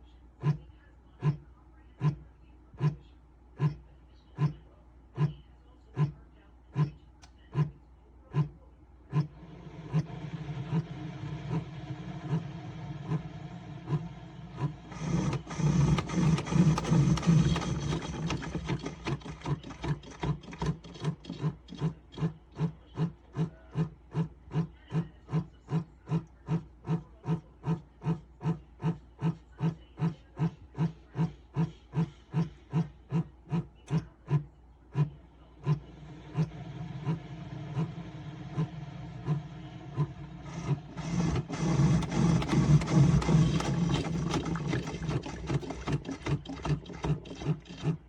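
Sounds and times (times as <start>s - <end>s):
coffee maker pump pulsing: 0.0s - 48.0s.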